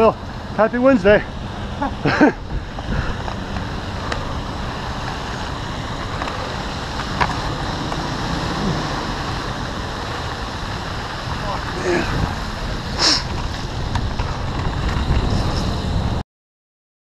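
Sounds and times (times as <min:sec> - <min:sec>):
bicycle tyre hiss on wet road: 0:00.0 - 0:16.2
car traffic: 0:00.0 - 0:16.2
wind noise on microphone: 0:01.2 - 0:16.2.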